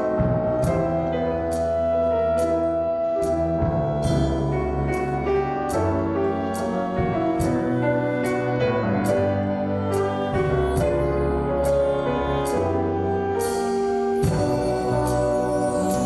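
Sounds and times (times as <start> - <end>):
held chords over bass: 0.0 - 16.0.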